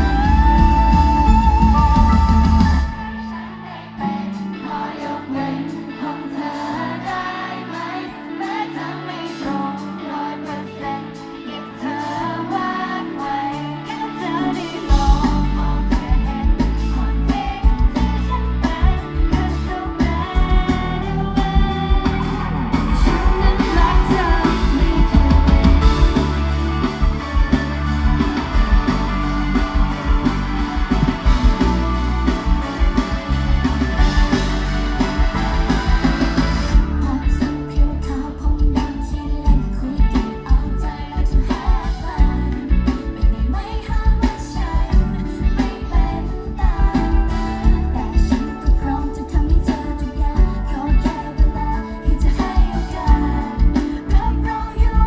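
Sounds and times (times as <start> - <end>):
pop song over sound system: 0.0 - 55.0
woman singing: 0.0 - 55.0.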